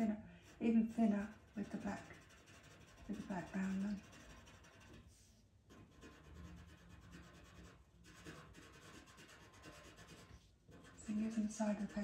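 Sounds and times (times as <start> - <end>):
pencil scratching on paper: 0.4 - 12.0.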